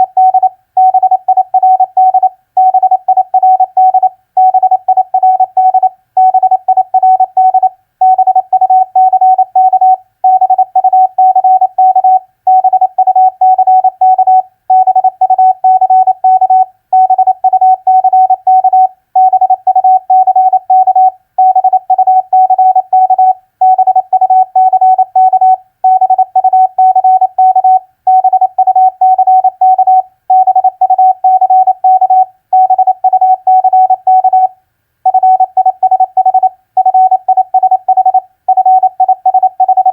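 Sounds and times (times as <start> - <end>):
morse code tone: 0.0 - 34.5, 35.1 - 39.9.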